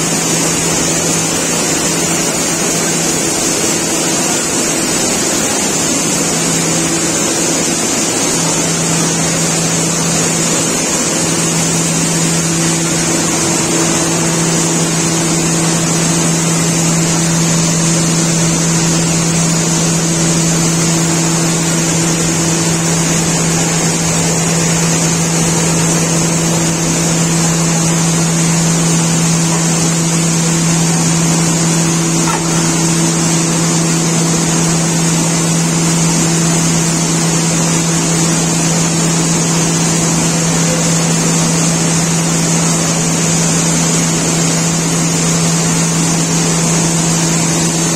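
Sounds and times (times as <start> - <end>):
machinery hum with hiss: 0.0 - 47.9.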